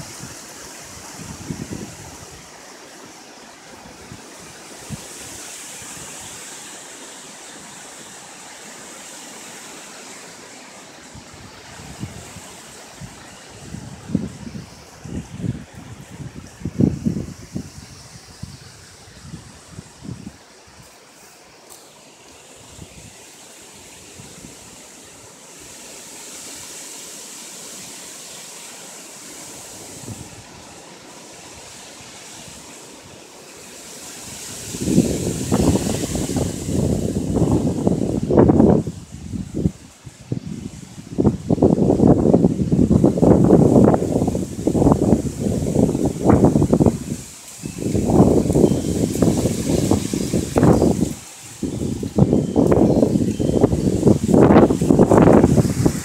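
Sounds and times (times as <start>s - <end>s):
wind gusts buffeting microphone: 0.0s - 8.4s, 10.8s - 20.9s, 29.3s - 56.0s
high wind rushing: 0.0s - 20.9s, 29.4s - 56.0s.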